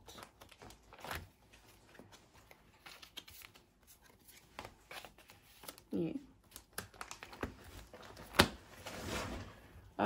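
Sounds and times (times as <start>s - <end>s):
cards rustling: 0.0s - 8.6s.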